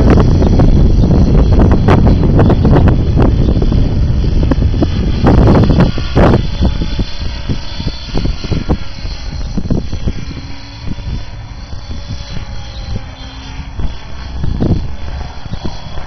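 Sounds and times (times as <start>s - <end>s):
helicopter rotor hum: 0.0s - 16.0s
wind buffeting microphone: 0.0s - 16.0s.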